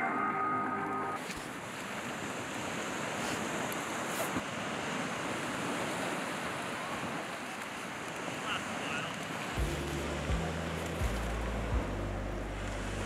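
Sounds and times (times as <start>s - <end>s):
small waves washing on beach: 1.2s - 13.0s.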